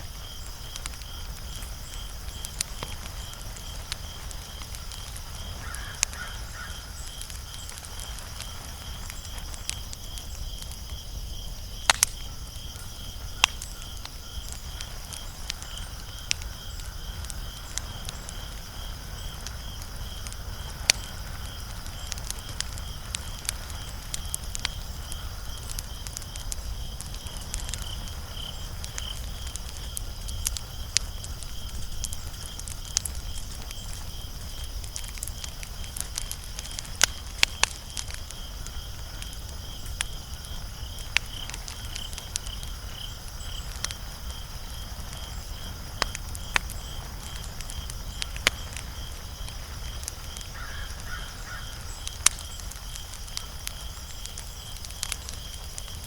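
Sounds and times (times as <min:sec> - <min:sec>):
sharp fire pops: 0:00.0 - 0:56.0
wood fire crackling: 0:00.0 - 0:56.0.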